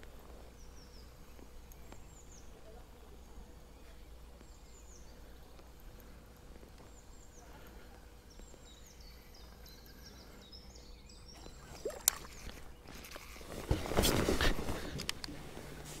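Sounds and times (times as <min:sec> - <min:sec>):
small bird chirping: 0:00.4 - 0:13.4.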